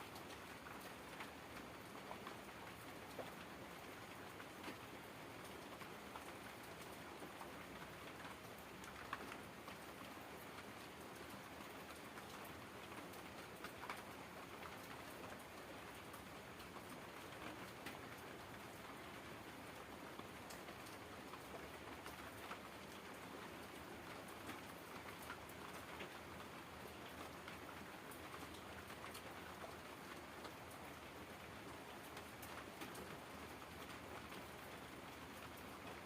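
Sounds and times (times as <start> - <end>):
faint rain falling: 0.0 - 36.0.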